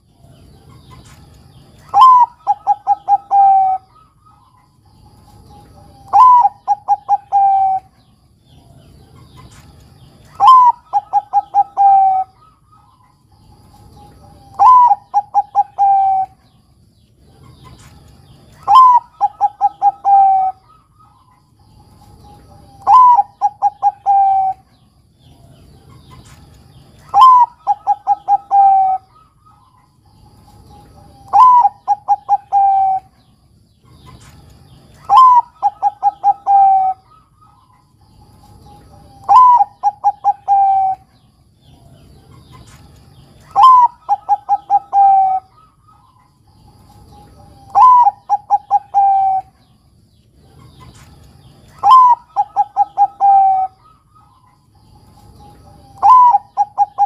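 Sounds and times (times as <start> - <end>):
dove cooing: 1.8 - 9.6, 10.2 - 16.6, 17.2 - 33.2, 33.8 - 49.8, 50.4 - 57.0.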